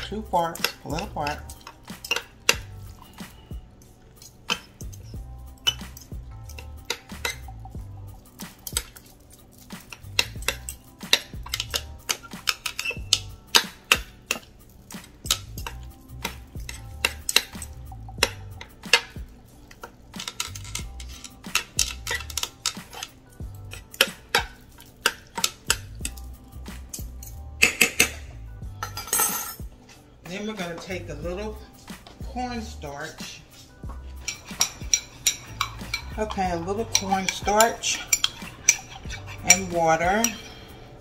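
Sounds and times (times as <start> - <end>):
metal forks scraping a crock: 0.0 - 30.1, 30.7 - 40.8.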